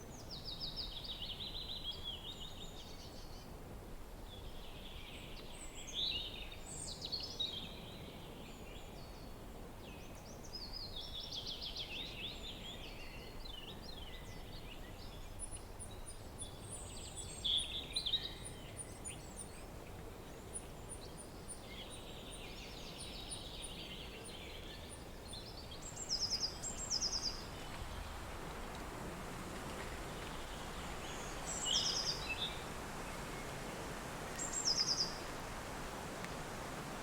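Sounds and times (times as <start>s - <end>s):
low rush of wind: 0.0s - 37.0s
wild birds singing: 4.3s - 28.2s, 29.8s - 35.5s.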